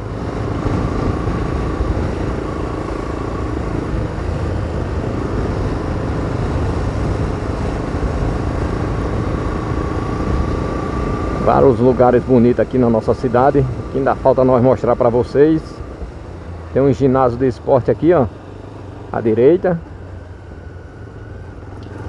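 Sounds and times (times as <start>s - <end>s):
faint steady whine: 0.0s - 22.0s
vehicle engine and road noise: 0.0s - 22.0s.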